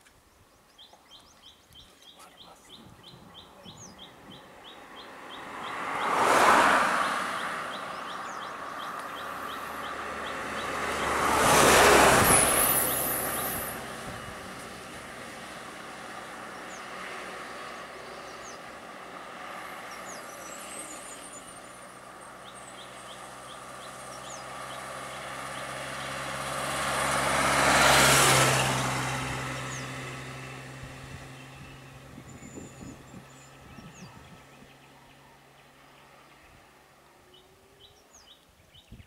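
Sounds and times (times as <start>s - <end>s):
vehicle engines running: 0.8s - 38.2s
vehicle passing close by: 2.3s - 38.3s.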